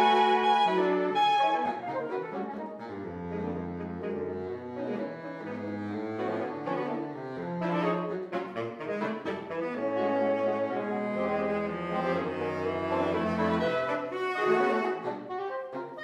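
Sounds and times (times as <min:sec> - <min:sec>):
low baritone saxophone line: 0:00.0 - 0:16.0
saxophone quartet playing: 0:00.0 - 0:16.0.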